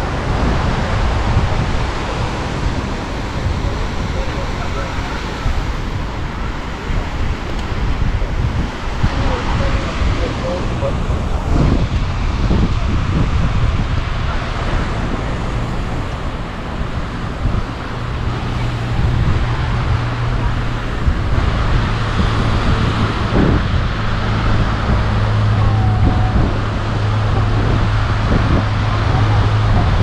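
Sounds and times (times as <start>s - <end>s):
low engine hum: 0.0s - 30.0s
wind rumbling on microphone: 0.0s - 30.0s.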